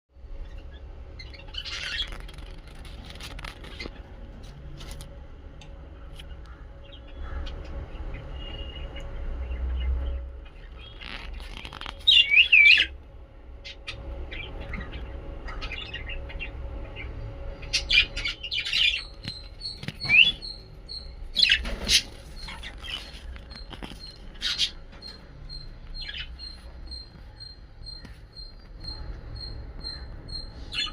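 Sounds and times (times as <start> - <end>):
lovebirds chirping and squawking: 0.3 - 4.2, 6.0 - 13.0, 13.6 - 30.9.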